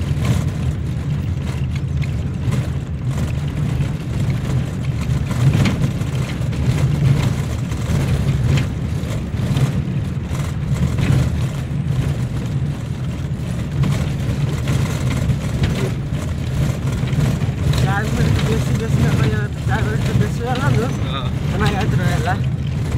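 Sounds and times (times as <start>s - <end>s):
faint knocks and rattles: 0.0s - 22.9s
road rumble: 0.0s - 22.9s
vehicle engine drone: 0.0s - 22.9s.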